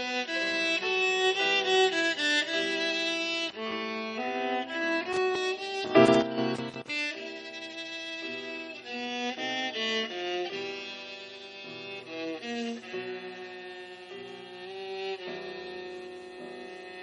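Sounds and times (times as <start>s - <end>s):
viola melody: 0.0s - 17.0s.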